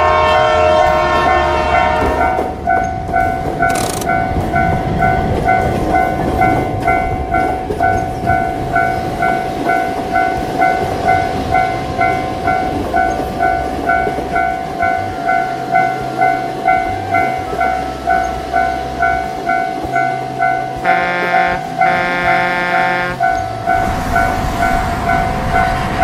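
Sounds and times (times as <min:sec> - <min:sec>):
diesel locomotive rumble: 0:00.0 - 0:26.0
freight wagons passing: 0:00.0 - 0:26.0
level crossing warning bell ringing: 0:00.0 - 0:26.0.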